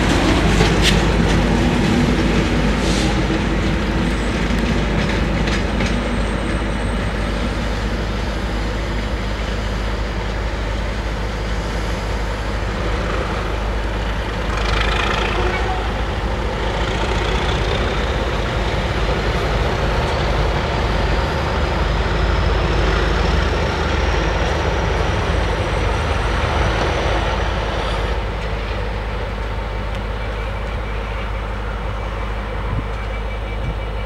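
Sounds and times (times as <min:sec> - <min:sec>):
diesel locomotive engines: 0:00.0 - 0:34.0.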